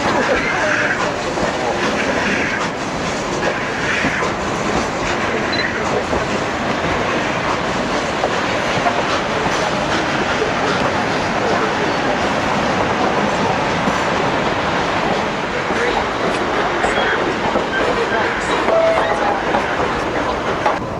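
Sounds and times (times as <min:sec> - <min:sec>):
train coach rumbling and rattling: 0:00.0 - 0:20.9.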